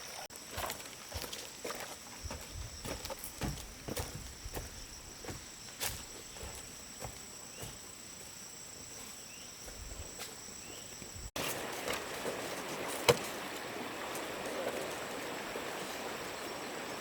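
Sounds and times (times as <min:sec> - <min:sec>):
crickets chorus: 0:00.0 - 0:17.0.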